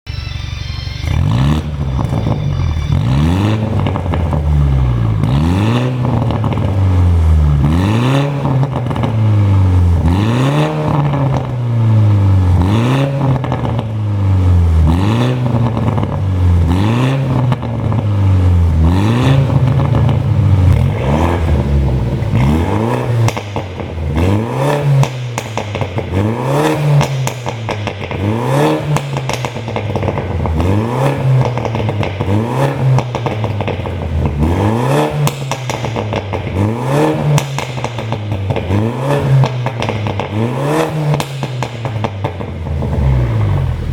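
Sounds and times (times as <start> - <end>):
car engine revving: 0.1 - 43.9
exhaust pops and crackles: 1.9 - 11.8, 12.5 - 43.9.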